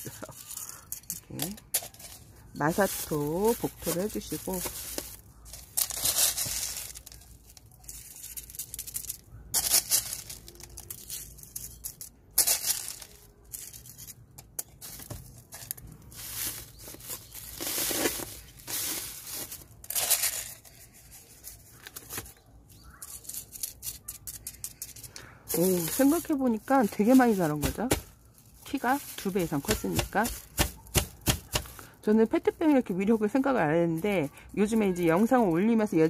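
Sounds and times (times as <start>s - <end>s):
grit scraping and rustling: 0.0s - 36.0s
plastic sheet crinkling: 0.0s - 36.0s.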